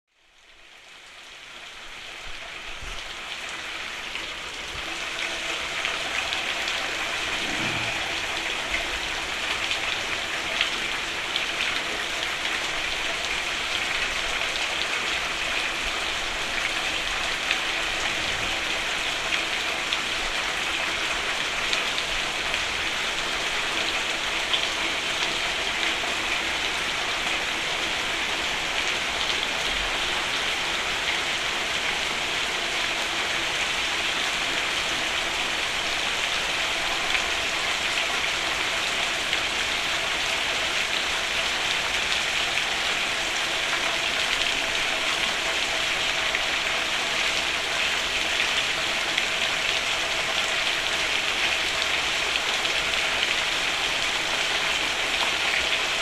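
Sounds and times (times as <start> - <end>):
rain falling on a roof: 0.1 - 56.0.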